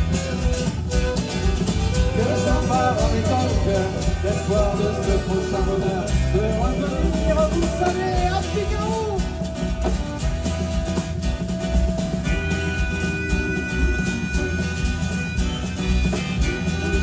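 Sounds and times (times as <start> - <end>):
live country-rock band: 0.0 - 17.0
wavering melody line: 0.0 - 17.0.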